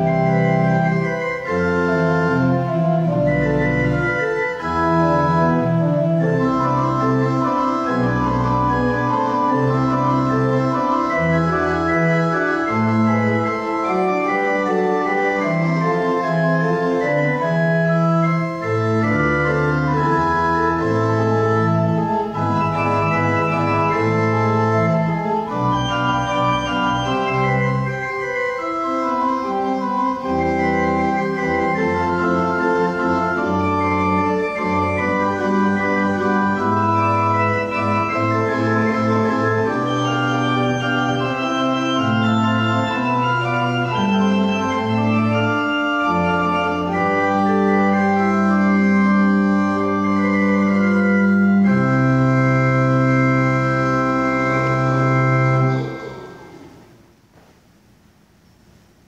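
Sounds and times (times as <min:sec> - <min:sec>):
church organ playing chords: 0:00.0 - 0:57.1.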